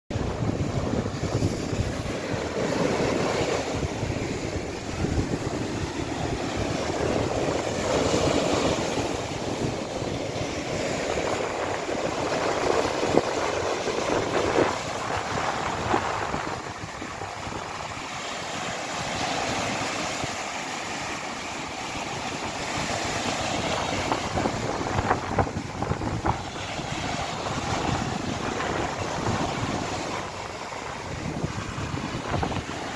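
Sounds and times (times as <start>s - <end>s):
waves breaking on sandy shore: 0.1s - 32.9s
wind buffeting microphone: 0.1s - 32.9s.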